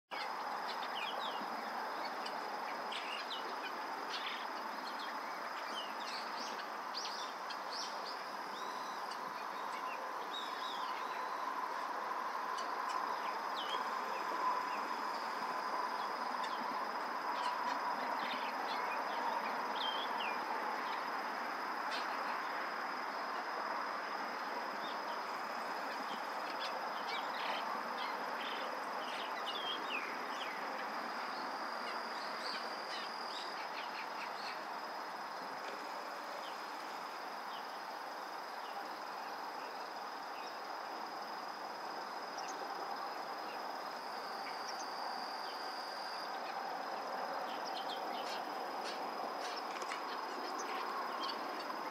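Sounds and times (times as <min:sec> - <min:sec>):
steady hiss: 0:00.1 - 0:51.9.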